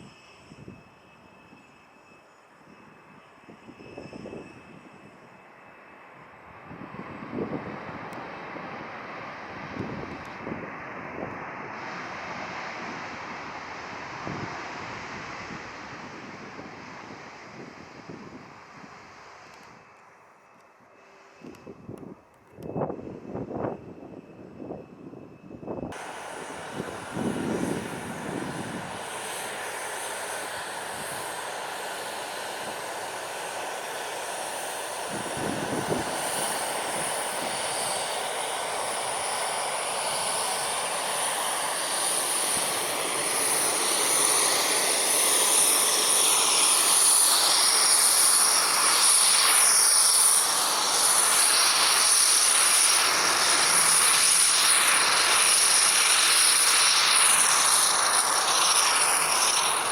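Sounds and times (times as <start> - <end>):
jet engines roaring and whining: 0.0 - 59.9.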